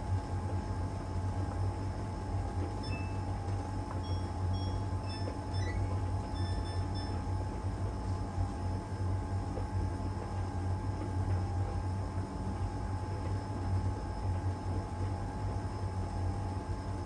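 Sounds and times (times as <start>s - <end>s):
tumble dryer low hum: 0.0s - 17.0s
tumble dryer whine: 0.0s - 17.0s.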